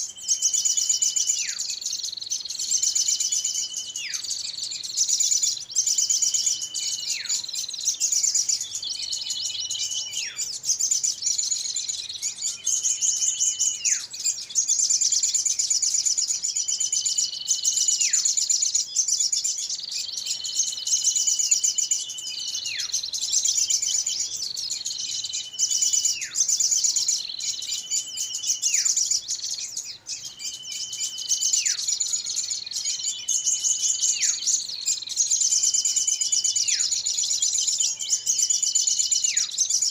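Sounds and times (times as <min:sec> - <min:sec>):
chorus of small birds chattering: 0:00.0 - 0:39.9.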